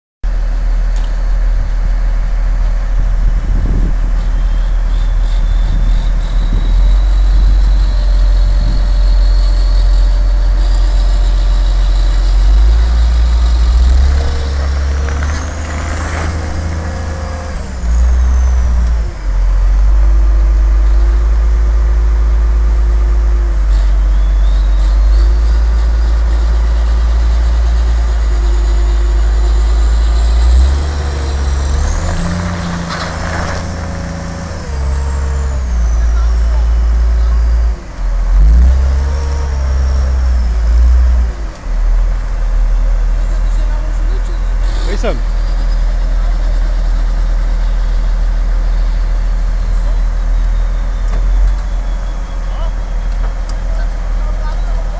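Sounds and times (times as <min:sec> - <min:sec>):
heavy diesel engines rumbling: 0:00.2 - 0:54.9.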